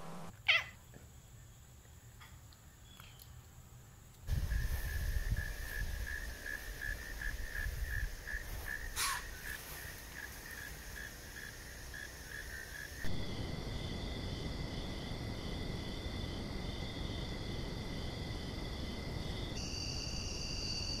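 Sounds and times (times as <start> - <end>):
night insects chirping: 0.0 - 21.0.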